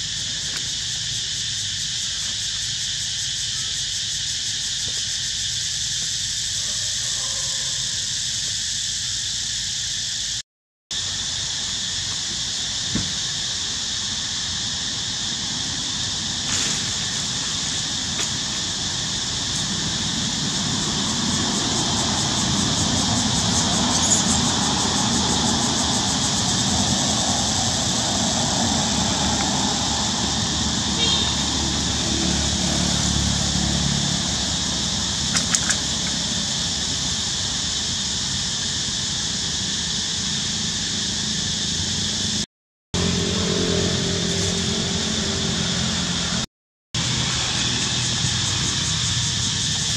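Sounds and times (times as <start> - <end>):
high-pitched insect drone: 0.0 - 42.4, 43.0 - 49.9.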